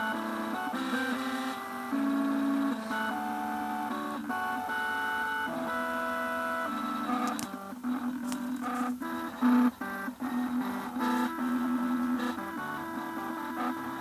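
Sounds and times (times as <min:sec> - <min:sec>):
stepper motors whining a melody: 0:00.0 - 0:14.0.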